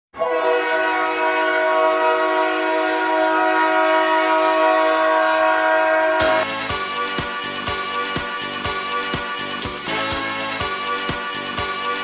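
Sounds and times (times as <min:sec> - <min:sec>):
hockey goal horn blast: 0:00.2 - 0:12.0.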